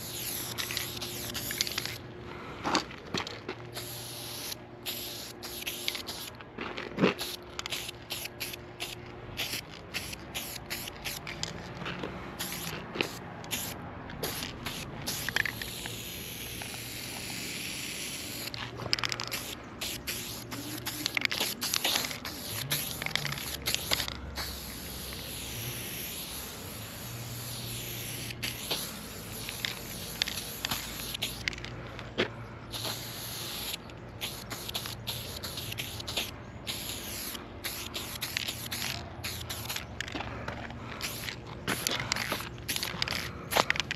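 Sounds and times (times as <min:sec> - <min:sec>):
spray paint can hissing: 0:00.0 - 0:02.0, 0:03.7 - 0:06.4, 0:07.2 - 0:11.5, 0:12.4 - 0:31.6, 0:32.7 - 0:40.1, 0:41.0 - 0:43.7.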